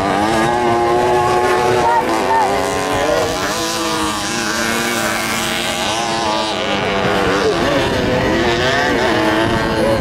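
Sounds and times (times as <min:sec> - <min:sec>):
moped engines revving hard: 0:00.0 - 0:10.0.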